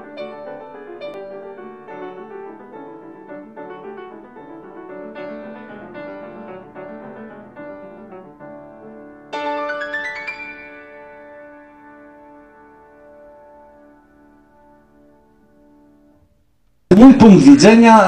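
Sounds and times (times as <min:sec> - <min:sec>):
gentle piano music: 0:00.0 - 0:16.2.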